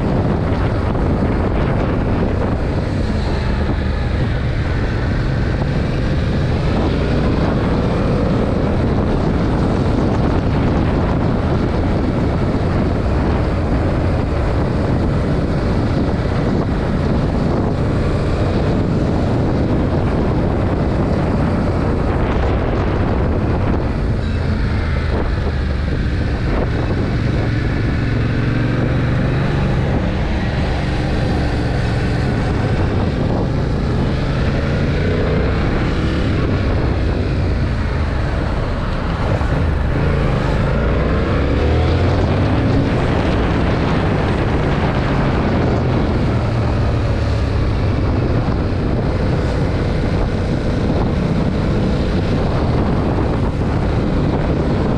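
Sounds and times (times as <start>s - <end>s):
motorcycle engine revving: 0.0s - 54.9s
wind noise on microphone: 0.0s - 54.9s.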